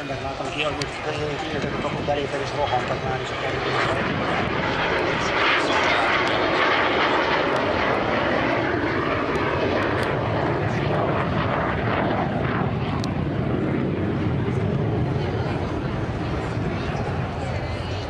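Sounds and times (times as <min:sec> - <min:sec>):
jet engine roar overhead: 0:00.0 - 0:18.0.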